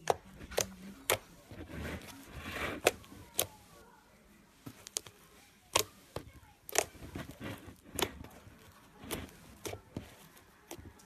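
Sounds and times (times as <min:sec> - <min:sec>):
slime squishing: 0:00.0 - 0:11.0.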